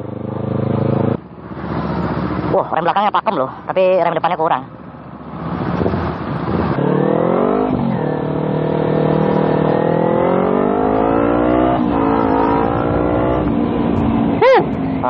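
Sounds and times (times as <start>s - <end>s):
motorcycle engine accelerating: 0.0s - 2.8s, 4.7s - 15.0s.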